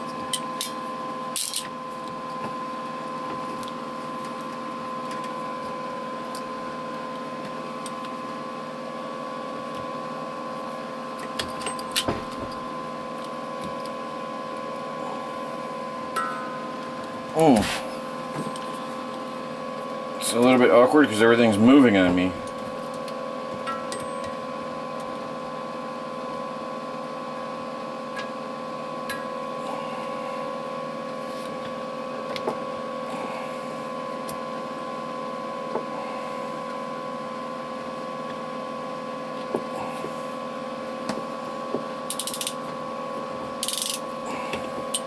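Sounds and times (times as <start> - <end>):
high-pitched hum: 0.0 - 26.5, 28.7 - 45.0.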